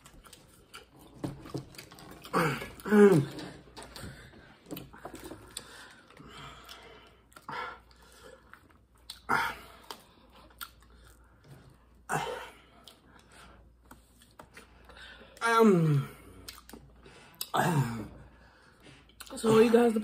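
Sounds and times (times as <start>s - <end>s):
people chewing food: 0.0s - 20.0s.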